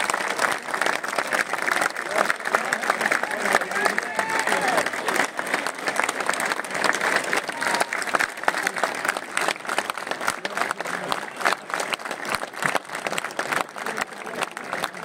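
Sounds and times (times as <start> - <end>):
crowd applauding: 0.0 - 15.0
hum of crowd voices: 0.0 - 15.0.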